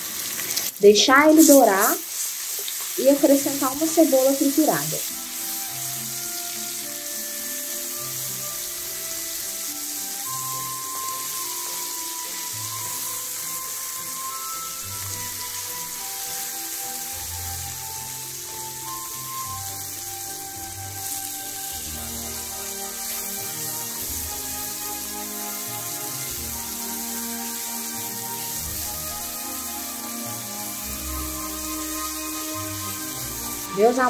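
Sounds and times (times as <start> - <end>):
garlic sizzling in oil: 0.0 - 34.0
soft background music: 2.9 - 34.0.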